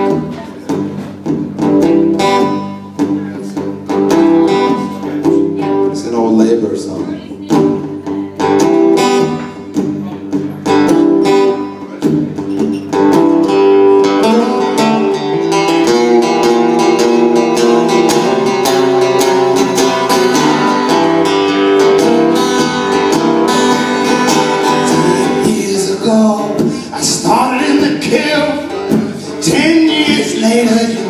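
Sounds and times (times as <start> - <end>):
acoustic guitar folk-blues: 0.0 - 31.0.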